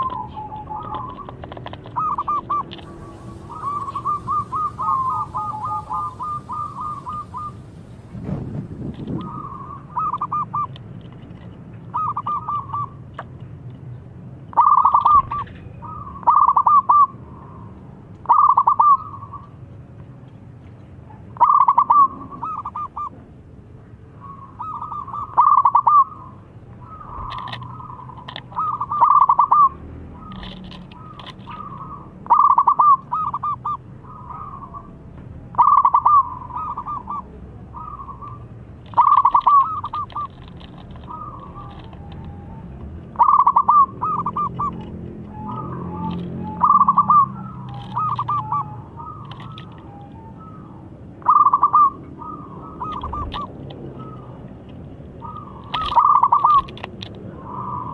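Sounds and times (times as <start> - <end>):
dove cooing: 0.0 - 8.4, 9.0 - 10.8, 14.5 - 17.6, 18.2 - 19.5, 21.4 - 23.2, 24.2 - 54.4, 55.2 - 57.9.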